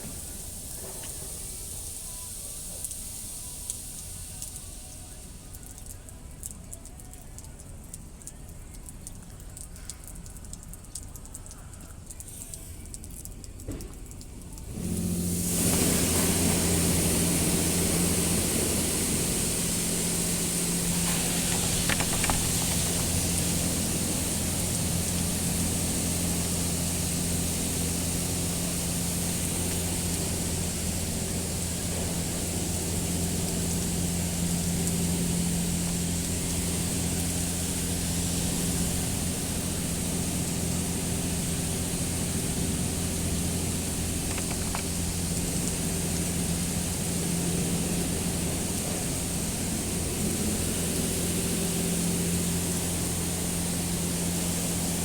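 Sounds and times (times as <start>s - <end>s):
high-pressure water spray hissing: 0.0s - 6.0s, 14.5s - 55.0s
low machine hum: 0.0s - 55.0s.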